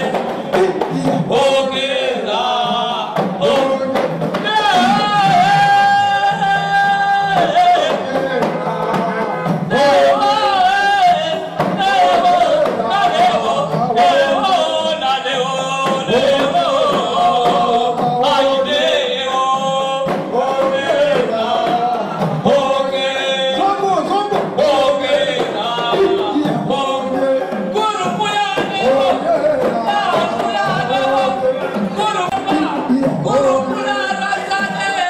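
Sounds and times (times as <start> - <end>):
group singing together: 0.0 - 35.0.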